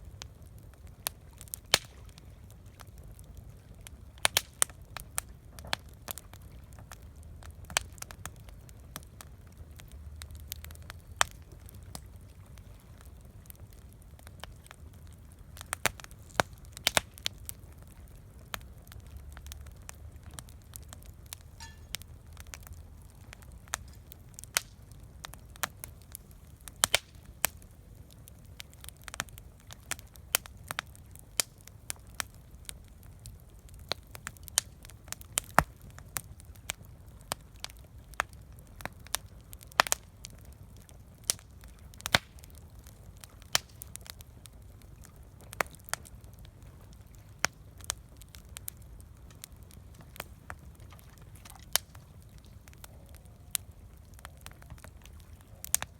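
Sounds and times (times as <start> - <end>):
campfire crackling: 0.0 - 55.9.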